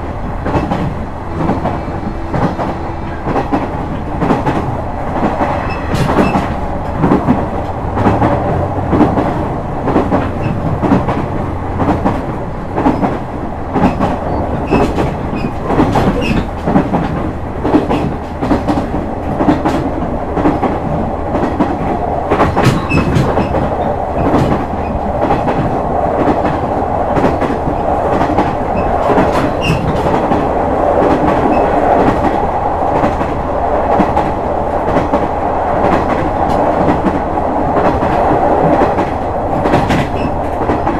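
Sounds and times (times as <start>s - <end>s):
diesel engine and wheels rumbling: 0.0s - 40.9s
wheels clicking over rail joints: 0.4s - 40.9s.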